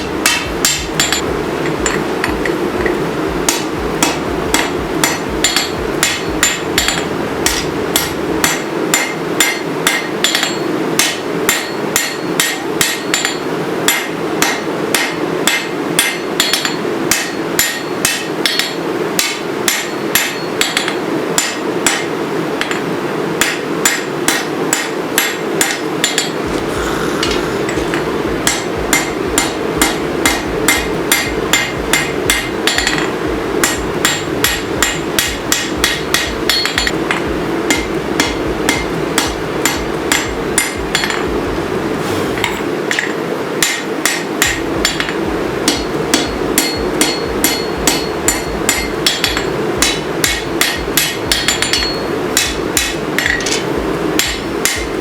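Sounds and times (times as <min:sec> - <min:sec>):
hammer striking steel on anvil: 0:00.0 - 0:41.3, 0:42.0 - 0:55.0
steady hum: 0:00.0 - 0:55.0.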